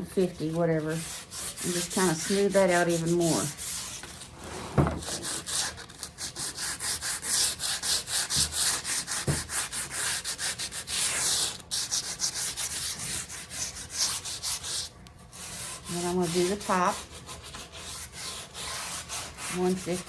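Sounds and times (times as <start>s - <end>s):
sandpaper rubbing on wood: 0.2s - 4.0s, 5.1s - 20.0s.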